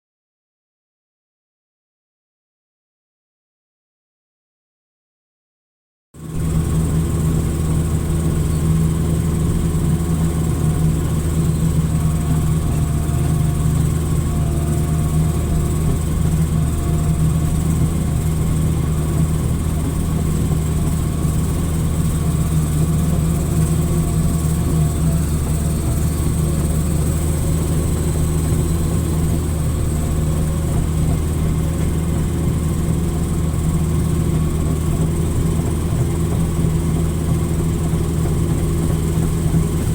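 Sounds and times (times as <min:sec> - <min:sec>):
excavator diesel engine droning: 0:06.2 - 0:39.9.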